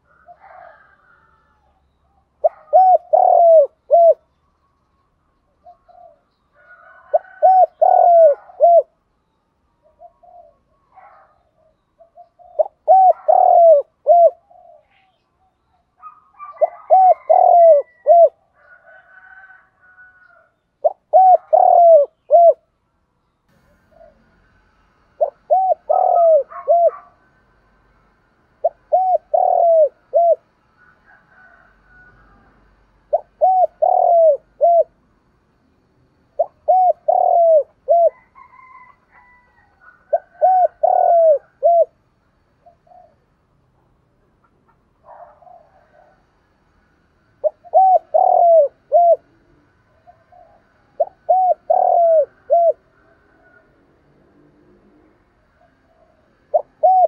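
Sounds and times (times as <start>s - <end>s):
dove cooing: 0.0s - 4.4s, 5.5s - 9.0s, 9.8s - 15.2s, 16.0s - 22.7s, 23.6s - 24.4s, 25.2s - 35.0s, 36.2s - 43.4s, 44.4s - 46.6s, 47.3s - 57.0s.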